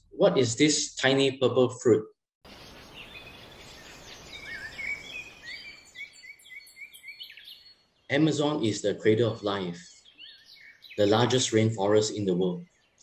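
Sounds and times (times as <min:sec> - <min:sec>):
birds chirping: 0:02.5 - 0:13.0.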